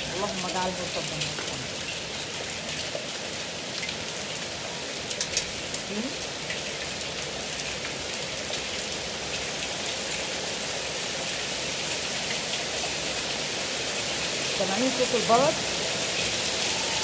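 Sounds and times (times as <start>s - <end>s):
hailstones ticking: 0.0s - 17.0s
heavy rain and hail: 0.0s - 17.0s.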